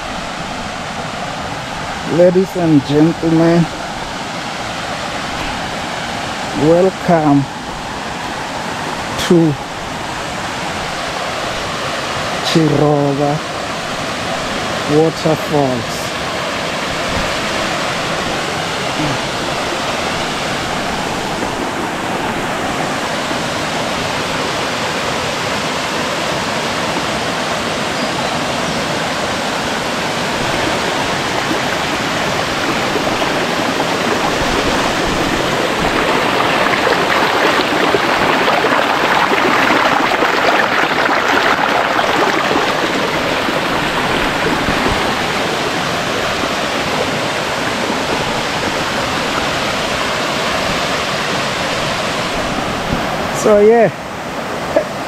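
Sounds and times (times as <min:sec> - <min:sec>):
small waterfall rushing: 0:00.0 - 0:55.0
stream running over rocks: 0:00.0 - 0:55.0.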